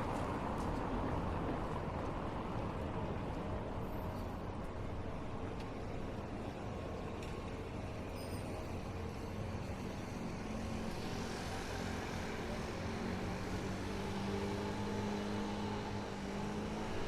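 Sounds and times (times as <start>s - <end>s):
city hum: 0.0s - 17.0s.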